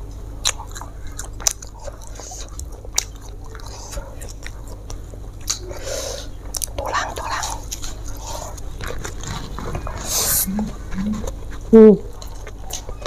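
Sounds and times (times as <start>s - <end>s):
chewing and biting food: 0.1s - 13.0s.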